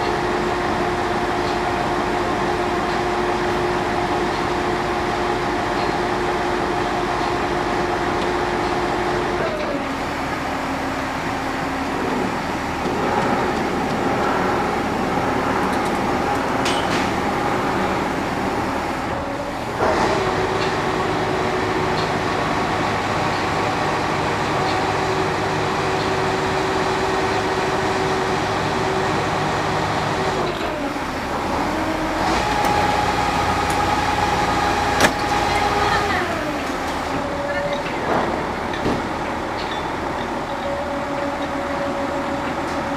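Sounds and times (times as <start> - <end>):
heavy machinery engine running: 0.0 - 42.9.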